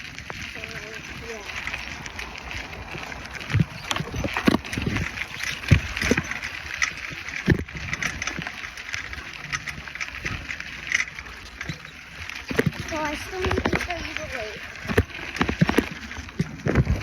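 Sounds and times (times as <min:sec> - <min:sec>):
bicycle knocking over bumps: 0:00.0 - 0:17.0
bicycle rustle: 0:00.0 - 0:17.0.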